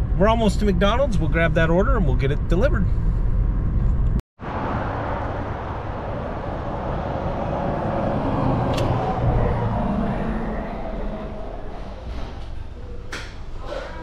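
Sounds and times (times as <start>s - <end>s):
car cabin road and engine noise: 0.0s - 13.2s
steady outdoor noise: 0.0s - 14.0s.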